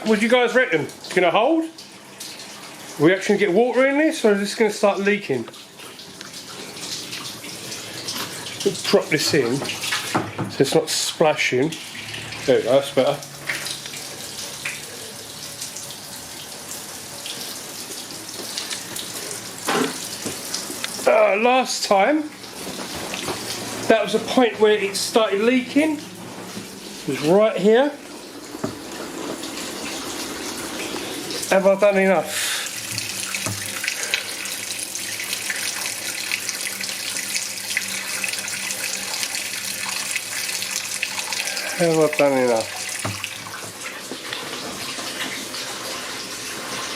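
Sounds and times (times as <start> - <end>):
water from hose filling tank: 0.0 - 46.9.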